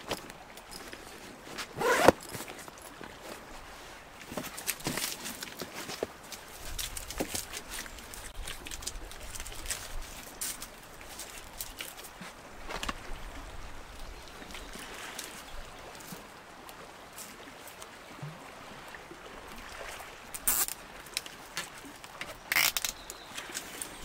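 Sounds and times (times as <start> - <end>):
seawater lapping at shore: 0.0 - 24.0.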